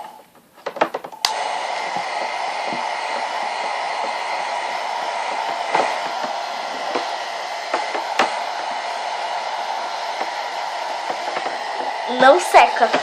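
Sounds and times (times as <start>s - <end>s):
hair dryer blowing air: 1.2s - 13.0s.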